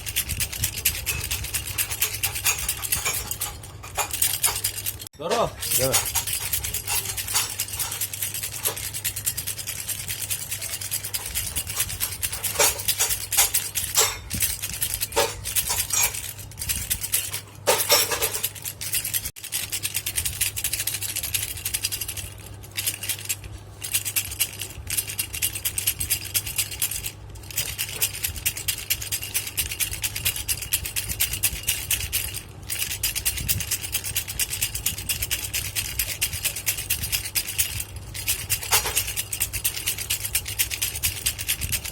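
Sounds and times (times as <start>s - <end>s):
baby rattle shaking: 0.0s - 41.9s
steady low hum: 0.0s - 41.9s.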